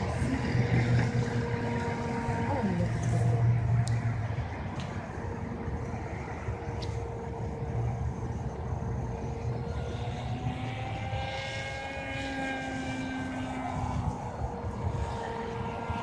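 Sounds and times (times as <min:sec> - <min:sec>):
higher whine rising in pitch: 0:00.0 - 0:16.0
rc plane motor whine: 0:00.0 - 0:16.0.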